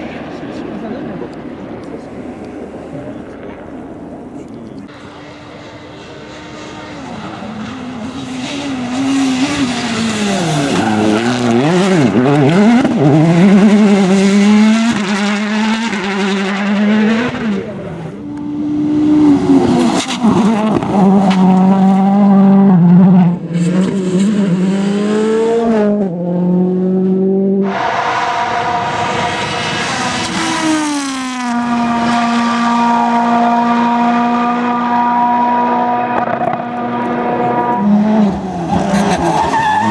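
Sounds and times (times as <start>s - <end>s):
rally car engine at high revs: 4.9s - 39.9s.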